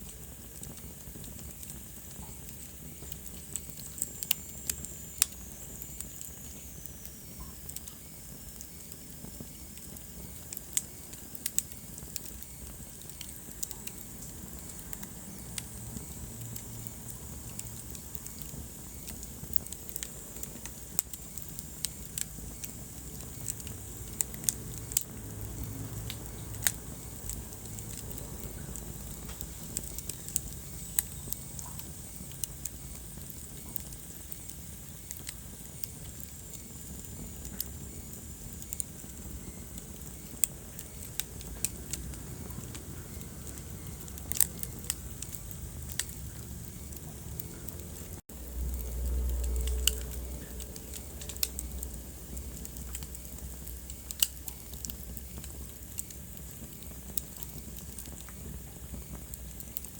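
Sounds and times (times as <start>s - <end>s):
fire crackling and popping: 0.0s - 59.9s
fire rumbling: 0.0s - 59.9s.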